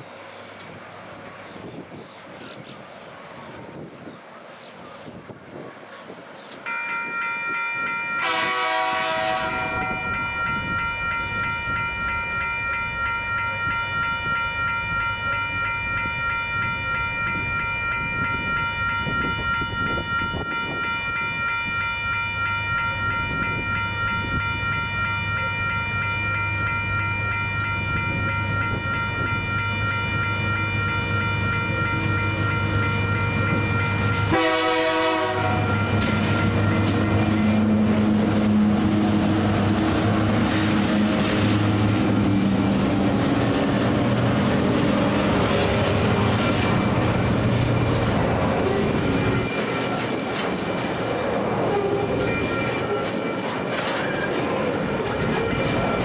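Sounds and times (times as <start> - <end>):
locomotive engines: 0.0 - 56.0
level crossing bells ringing: 6.6 - 56.0
locomotive horn blast: 6.7 - 47.2, 51.7 - 56.0.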